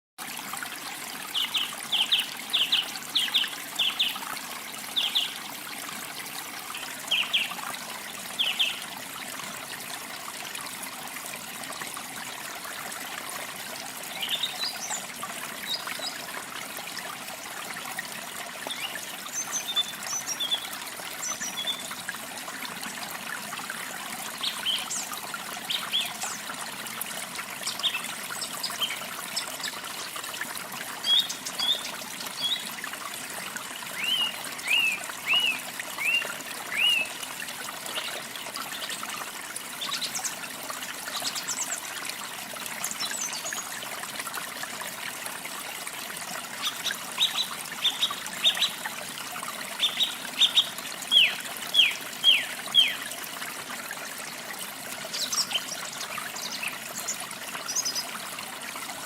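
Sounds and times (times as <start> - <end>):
water trickling: 0.2 - 59.0.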